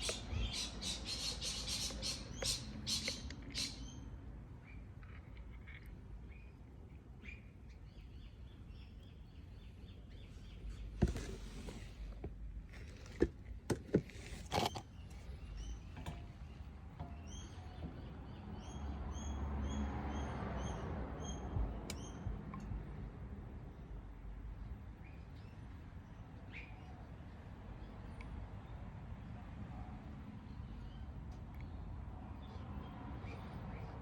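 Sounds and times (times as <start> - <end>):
small birds chirping: 0.0 - 12.1, 14.2 - 22.9, 24.5 - 28.8, 30.4 - 34.0.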